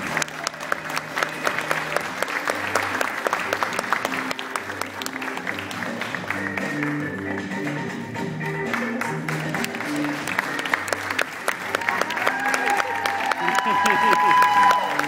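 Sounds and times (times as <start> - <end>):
audience applauding: 0.0 - 15.0
music playing: 0.0 - 15.0.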